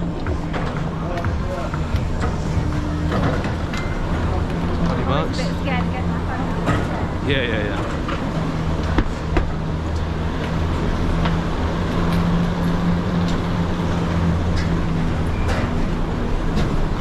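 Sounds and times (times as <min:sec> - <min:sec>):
chairlift machinery humming: 0:00.0 - 0:17.0.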